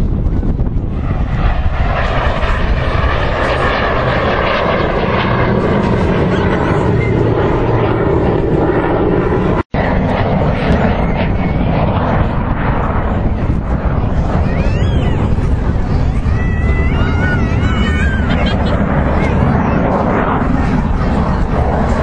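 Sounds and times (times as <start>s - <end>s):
aircraft engines roaring: 0.0s - 22.0s.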